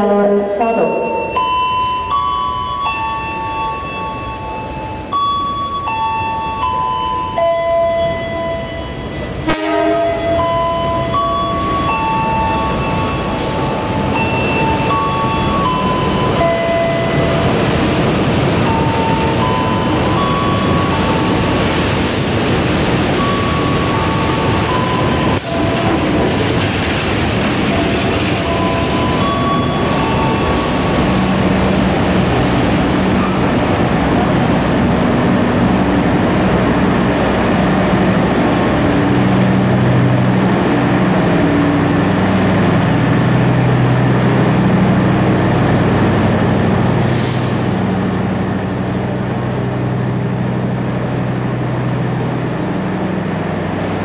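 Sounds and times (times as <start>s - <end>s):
train engine and wheels rumbling: 0.0s - 54.0s.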